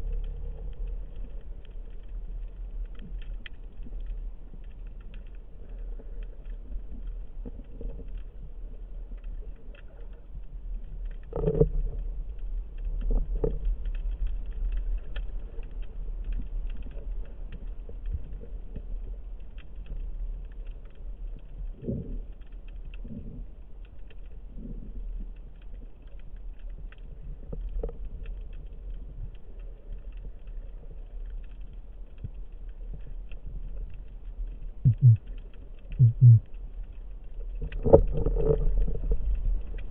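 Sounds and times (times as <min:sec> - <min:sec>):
faint crackling ticks: 0:00.0 - 0:39.9
underwater sea rumble: 0:00.0 - 0:39.9.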